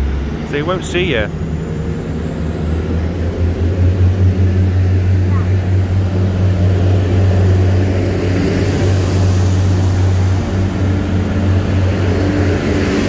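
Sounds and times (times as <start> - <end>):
diesel train engine drone: 0.0 - 13.0.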